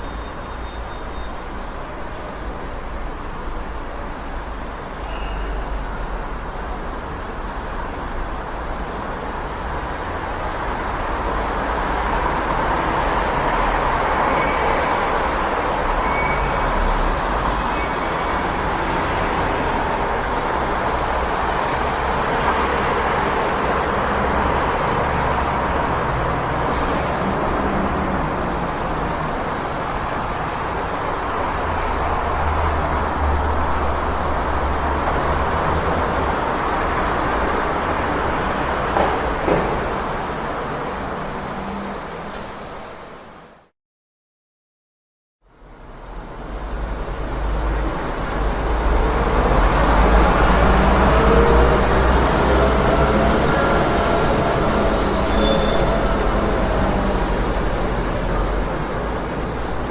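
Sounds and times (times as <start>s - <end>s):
passing vehicles: 0.0s - 43.7s, 45.7s - 59.9s.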